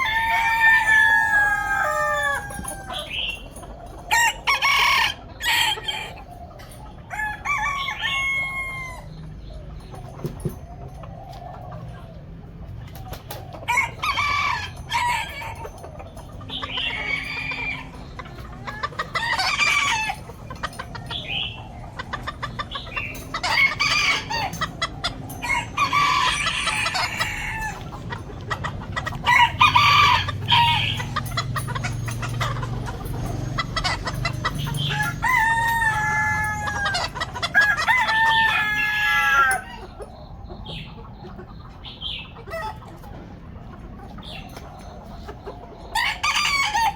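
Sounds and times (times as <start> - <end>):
chickens clucking: 0.0 - 46.9
roosters crowing: 0.0 - 46.9.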